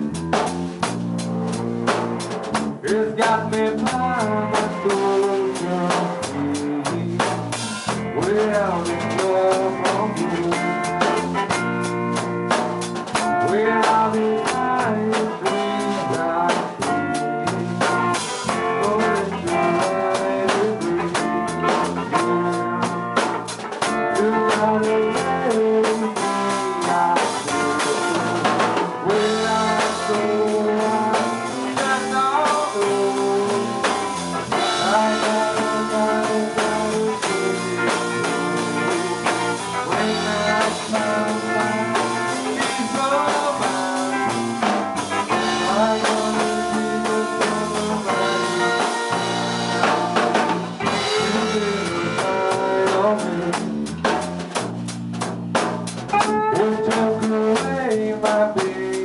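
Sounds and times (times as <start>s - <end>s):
drum kit: 0.0s - 59.0s
electric bass: 0.0s - 59.0s
electric guitar: 0.0s - 59.0s
person singing into microphone: 2.8s - 11.6s, 13.2s - 54.2s, 56.1s - 59.0s.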